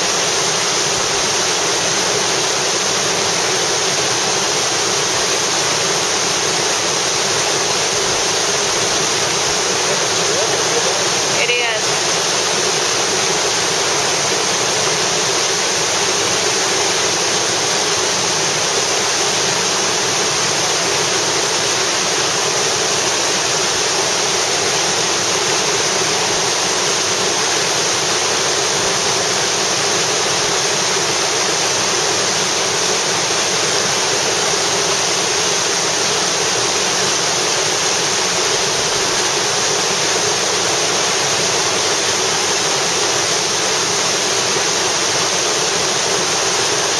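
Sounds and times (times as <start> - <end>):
whitewater rushing: 0.0 - 46.9.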